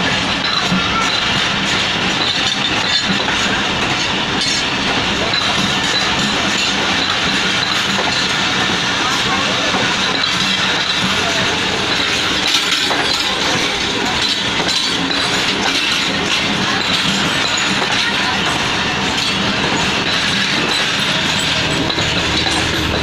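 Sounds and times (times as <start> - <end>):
passenger train rumbling on track: 0.0 - 23.0.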